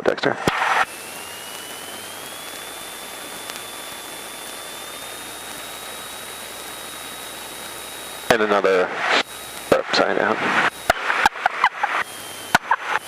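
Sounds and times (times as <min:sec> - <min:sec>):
aircraft engine and propeller noise: 0:00.0 - 0:13.0
thin high whine: 0:00.3 - 0:13.0.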